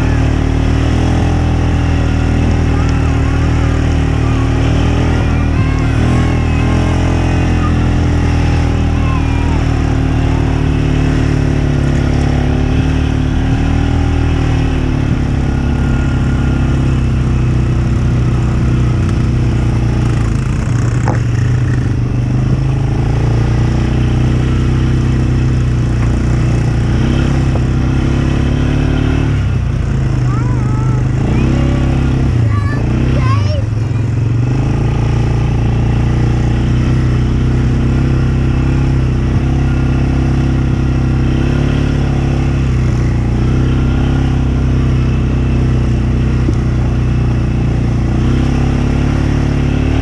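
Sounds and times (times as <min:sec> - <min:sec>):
off-road vehicle engine: 0:00.0 - 0:50.0.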